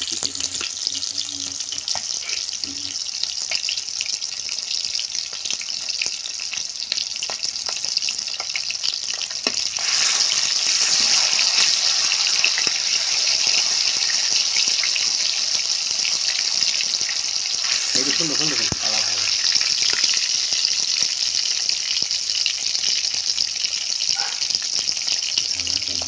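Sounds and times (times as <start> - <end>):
deep-frying sizzle and crackles: 0.0 - 26.0.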